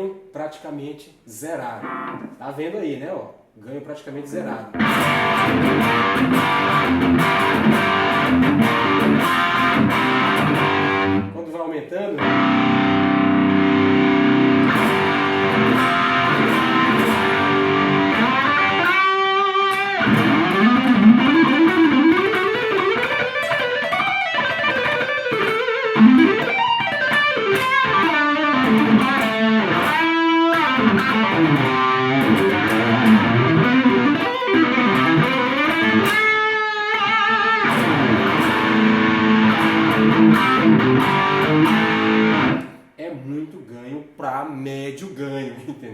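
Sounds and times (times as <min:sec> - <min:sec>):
high held guitar notes wavering: 0:01.8 - 0:02.3, 0:04.7 - 0:11.3, 0:12.2 - 0:42.8
distorted electric guitar riffs: 0:01.8 - 0:02.4, 0:04.7 - 0:11.4, 0:12.2 - 0:42.8.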